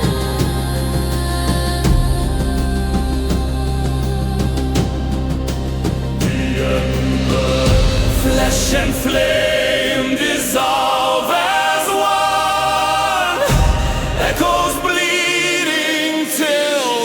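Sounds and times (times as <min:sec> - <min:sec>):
dark ambient music with choir: 0:00.0 - 0:17.0.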